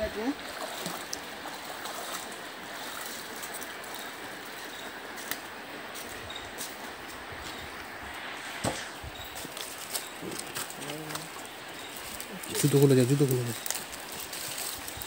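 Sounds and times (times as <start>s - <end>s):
water sloshing around legs: 0.0s - 7.9s, 9.2s - 15.0s.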